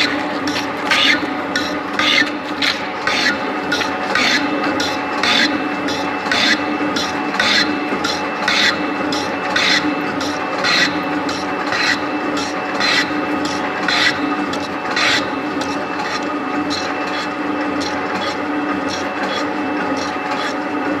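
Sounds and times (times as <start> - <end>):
shaper ram scraping rasp: 0.0 - 20.6
machine hum: 0.0 - 21.0.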